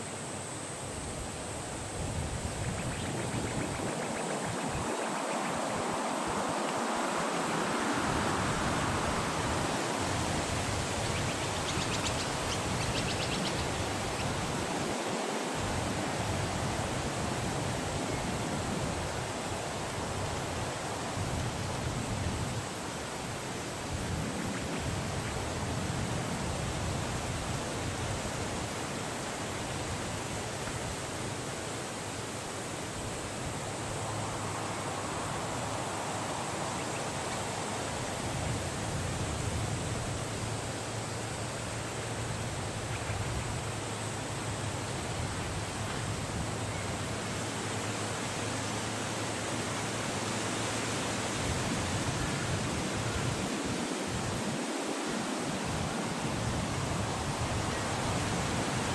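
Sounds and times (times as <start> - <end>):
wind blowing: 0.0 - 58.9.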